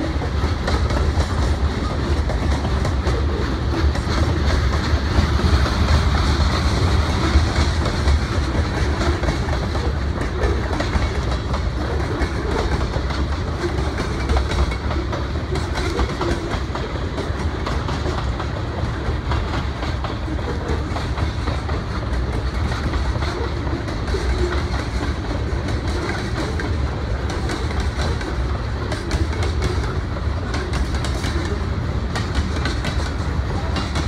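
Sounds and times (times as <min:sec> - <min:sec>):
freight train rumbling past: 0:00.0 - 0:34.0
wheels clacking over rail joints: 0:00.0 - 0:34.0.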